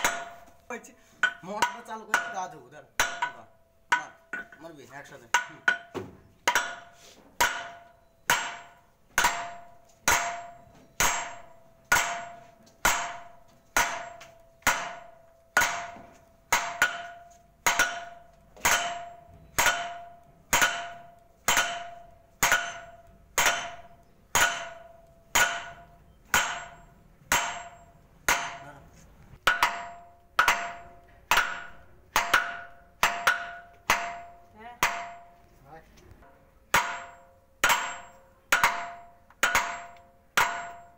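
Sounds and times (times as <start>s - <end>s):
hammer striking steel: 0.0s - 35.4s, 36.2s - 40.9s.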